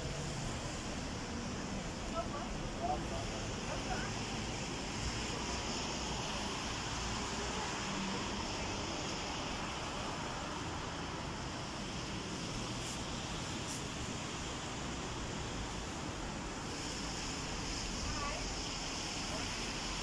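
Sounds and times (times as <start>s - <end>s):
wind hiss: 0.0s - 20.0s.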